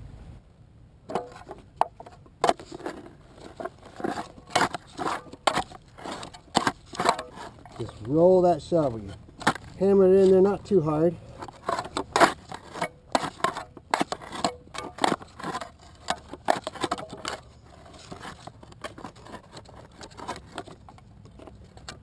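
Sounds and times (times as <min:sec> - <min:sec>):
shovel scraping through clay and gravel: 0:01.1 - 0:22.0.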